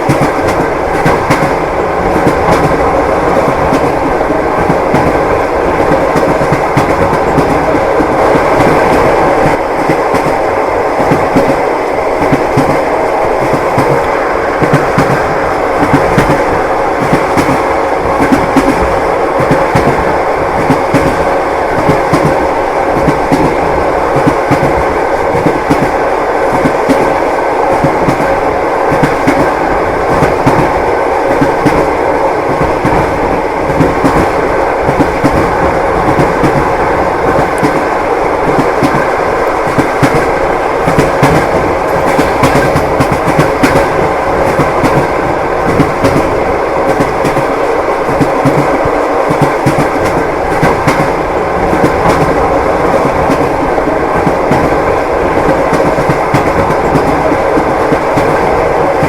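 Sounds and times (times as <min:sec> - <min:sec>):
railway carriage rumble: 0:00.0 - 0:59.0
train wheels clacking on rails: 0:00.0 - 0:59.0.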